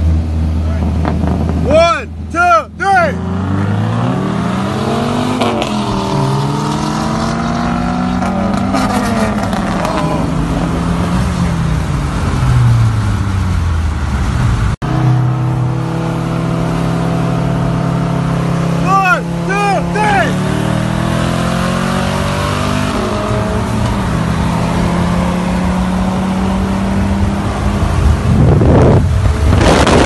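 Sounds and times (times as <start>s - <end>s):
car engine accelerating: 3.0s - 30.0s.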